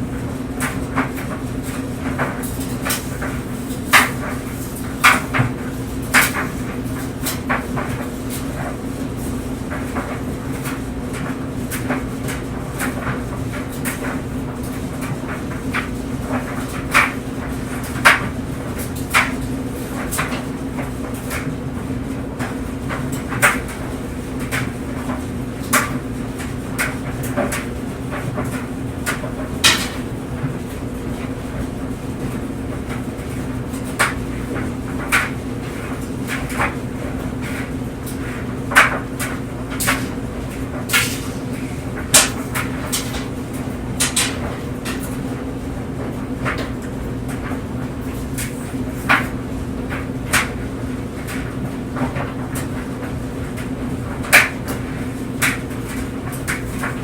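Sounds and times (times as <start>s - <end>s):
tumble dryer drum humming: 0.0s - 57.0s.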